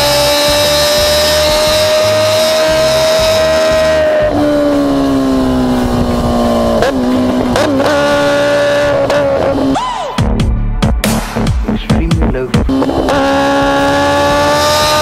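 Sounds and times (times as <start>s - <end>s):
motorcycle engine at high revs: 0.0s - 9.8s, 12.6s - 15.0s
electronic music with wobbling bass: 0.0s - 15.0s.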